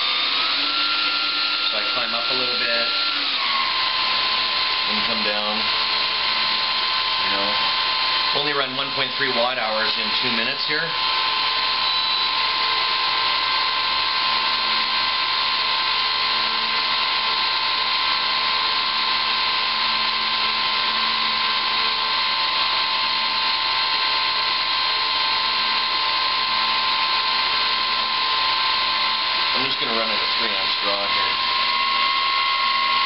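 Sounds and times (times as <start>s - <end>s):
electric motor propeller whine: 0.0s - 33.0s.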